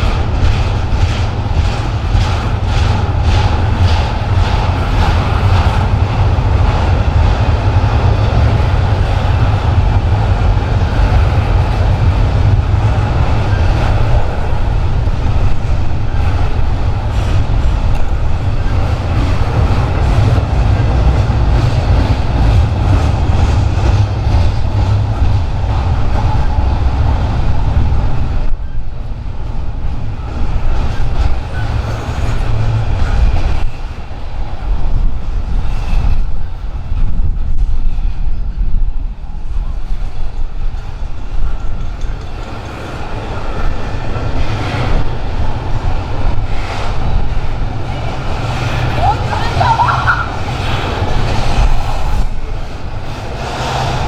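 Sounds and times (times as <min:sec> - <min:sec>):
train passing on tracks: 0:00.0 - 0:54.0.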